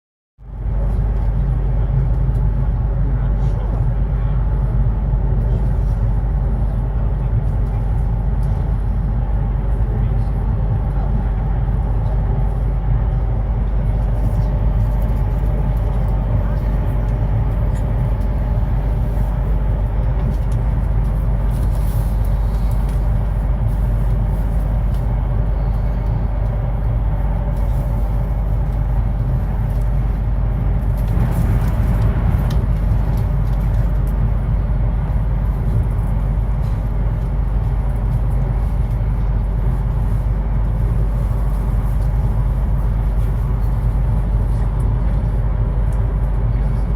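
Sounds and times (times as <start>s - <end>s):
train rumbling at speed: 0.4s - 46.9s.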